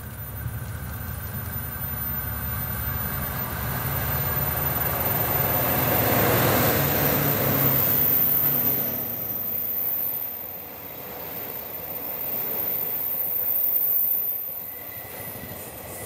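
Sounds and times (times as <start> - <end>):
diesel locomotives passing: 0.0 - 16.0.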